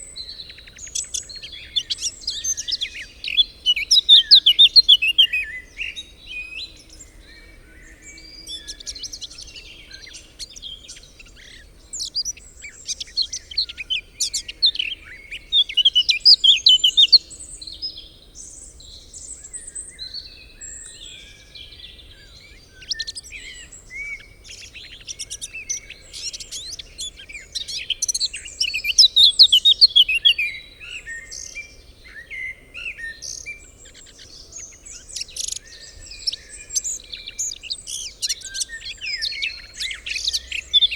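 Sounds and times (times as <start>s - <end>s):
woodland birds singing: 0.0s - 40.9s.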